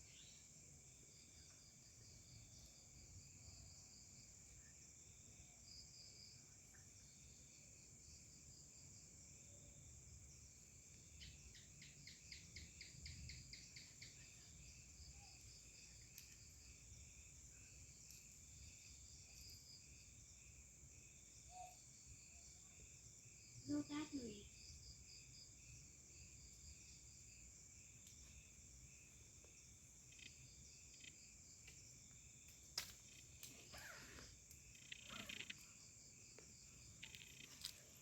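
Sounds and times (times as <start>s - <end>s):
crickets and insects chirping: 0.0s - 38.0s
rapid insect pulses: 0.0s - 38.0s.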